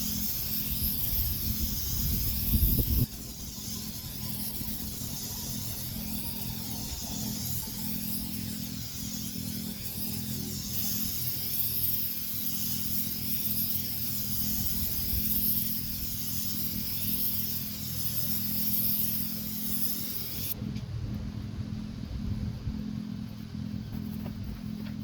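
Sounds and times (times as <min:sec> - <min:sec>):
high hiss: 0:00.0 - 0:20.6
mechanical hum: 0:00.0 - 0:25.0.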